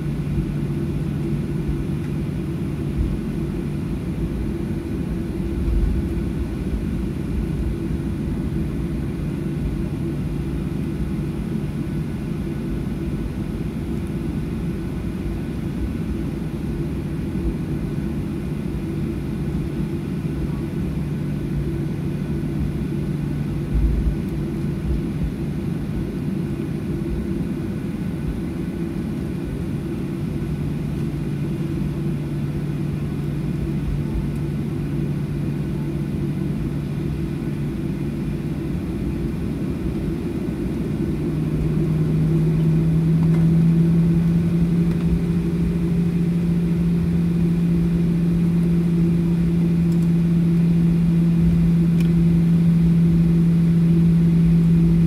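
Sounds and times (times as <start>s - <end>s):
jet engines humming: 0.0s - 55.0s.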